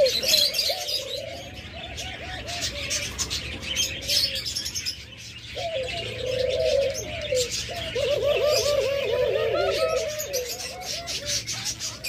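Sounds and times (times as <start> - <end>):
doves cooing: 0.0 - 12.0
small birds chirping: 0.0 - 12.0.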